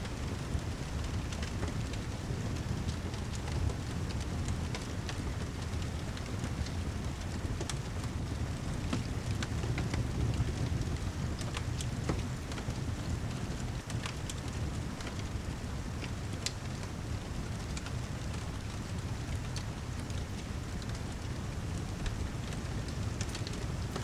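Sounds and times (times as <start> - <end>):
rain rumble: 0.0 - 24.0
wood fire crackling: 0.0 - 24.0.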